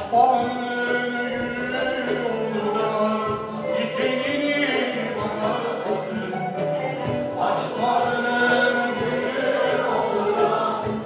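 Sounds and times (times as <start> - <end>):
instrumental ensemble: 0.0 - 11.0
choir singing a flowing melody: 0.8 - 11.0.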